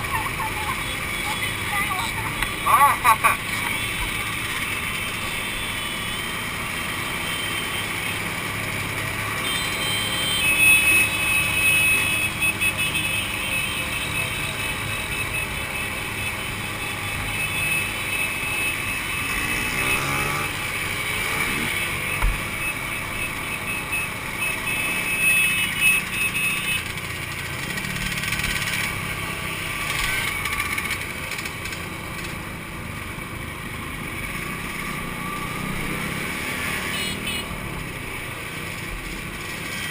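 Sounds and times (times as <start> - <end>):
two-stroke motorcycle engines whining: 0.0 - 39.9.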